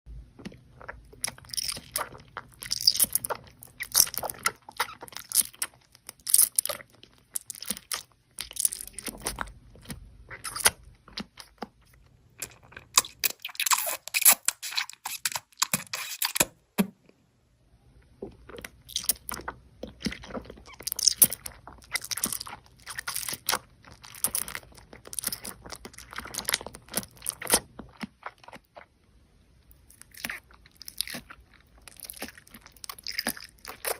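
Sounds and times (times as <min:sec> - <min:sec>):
person chewing crunchy food: 0:00.1 - 0:16.5, 0:18.0 - 0:29.0, 0:29.6 - 0:33.9.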